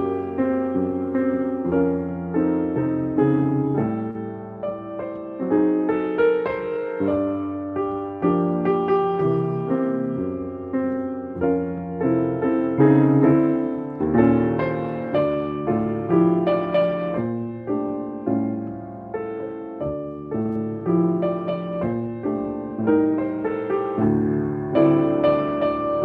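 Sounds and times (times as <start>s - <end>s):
solo upright piano: 0.0s - 26.0s.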